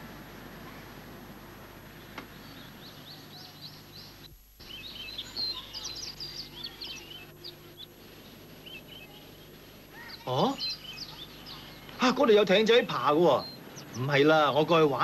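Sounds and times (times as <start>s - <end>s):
faint steady background noise: 0.0s - 15.0s
small birds chirping: 0.5s - 15.0s.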